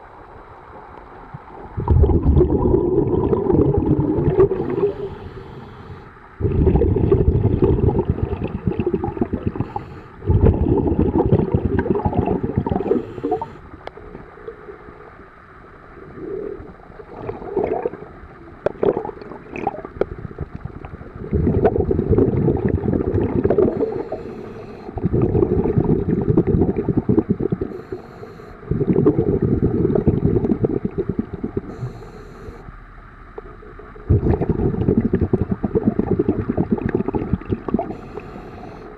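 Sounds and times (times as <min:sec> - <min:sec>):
underwater exhaled bubbles: 0:01.1 - 0:38.9.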